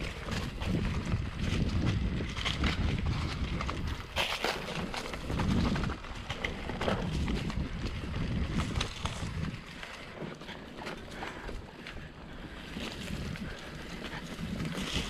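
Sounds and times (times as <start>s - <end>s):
wind on microphone: 0.0s - 10.2s, 10.8s - 15.0s
bike knocking and rattling: 0.0s - 15.0s.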